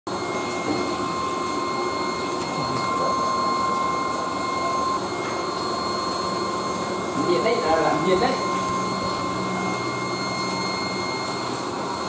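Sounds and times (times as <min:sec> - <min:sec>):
high-pitched whine: 0:00.1 - 0:12.0.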